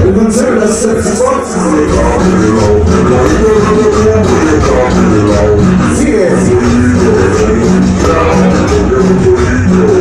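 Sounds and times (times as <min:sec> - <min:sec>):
loud cumbia music: 0:00.0 - 0:10.0.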